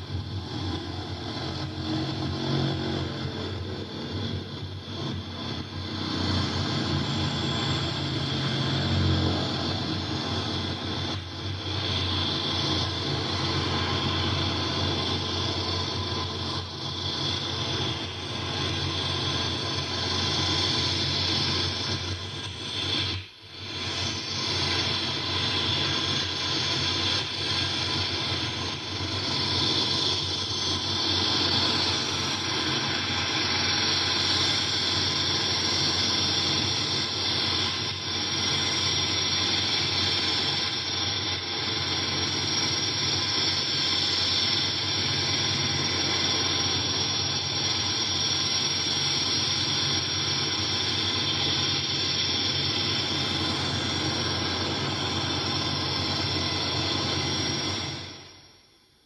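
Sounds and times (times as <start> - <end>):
turboprop engines running: 0.0 - 58.8.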